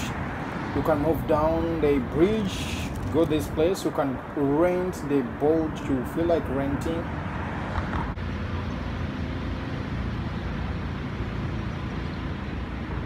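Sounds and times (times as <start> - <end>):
low urban rumble: 0.0 - 13.0.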